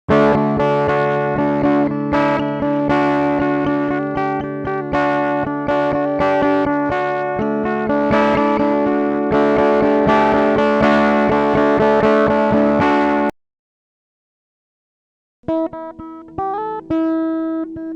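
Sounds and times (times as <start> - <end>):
plucked notes over sustained chords: 0.1 - 13.3, 15.4 - 17.9.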